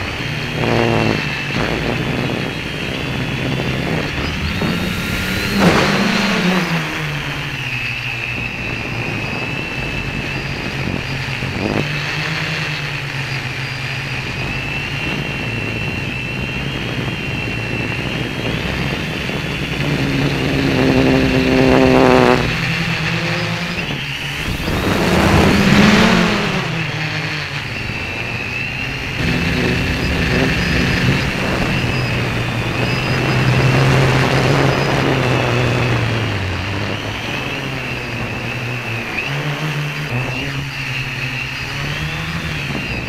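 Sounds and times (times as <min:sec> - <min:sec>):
quadcopter motors whining: 0:00.0 - 0:43.0.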